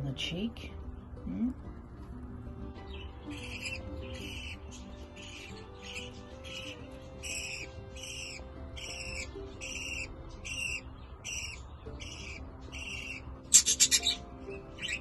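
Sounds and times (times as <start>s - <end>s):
budgerigar squawking chatter: 2.8s - 15.0s
budgerigar high call: 2.9s - 15.0s.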